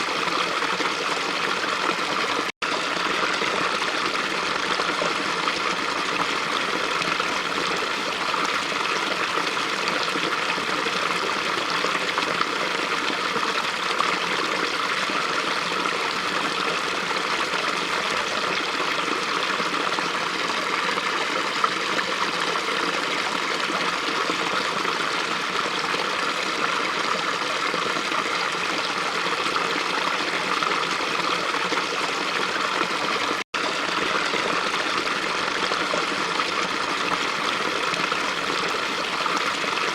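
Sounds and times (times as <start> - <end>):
brook flowing: 0.0 - 39.9.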